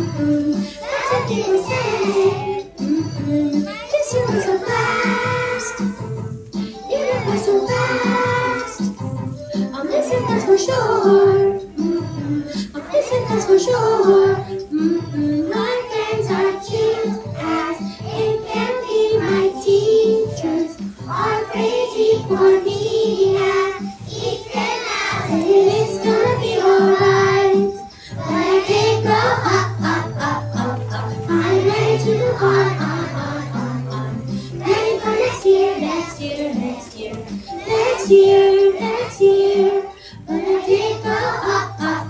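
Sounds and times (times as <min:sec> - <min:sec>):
backing music: 0:00.0 - 0:42.0
children singing in unison: 0:00.0 - 0:42.0.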